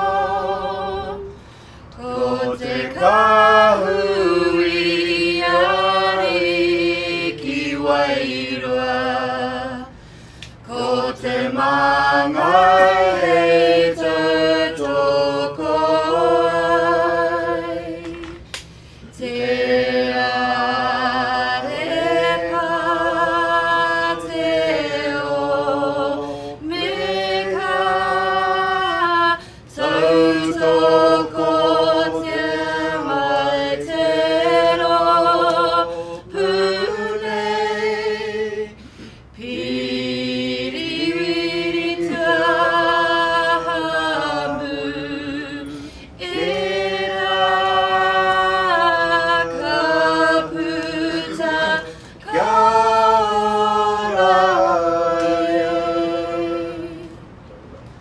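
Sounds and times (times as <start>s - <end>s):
group of voices singing unaccompanied: 0.0s - 57.4s.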